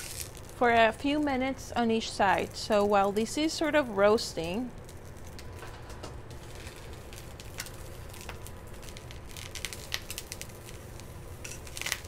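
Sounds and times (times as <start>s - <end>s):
corn sizzling in a skillet: 0.0s - 5.6s, 6.3s - 12.0s.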